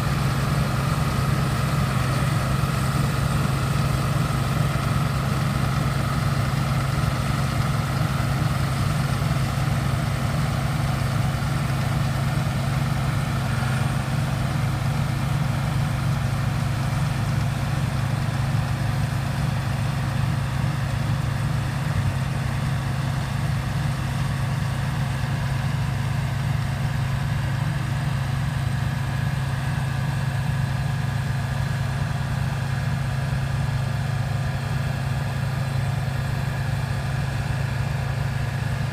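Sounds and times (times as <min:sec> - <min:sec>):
combine harvester engine hum: 0:00.0 - 0:38.9.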